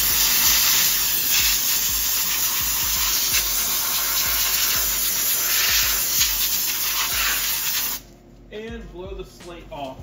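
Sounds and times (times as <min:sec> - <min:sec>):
compressed-air blow gun hissing: 0:00.0 - 0:08.0.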